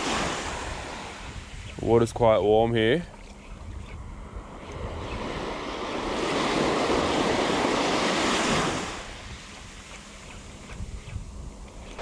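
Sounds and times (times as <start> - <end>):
wave washing up sand: 0.0 - 2.4, 4.8 - 12.0
wind rumble on microphone: 0.0 - 12.0.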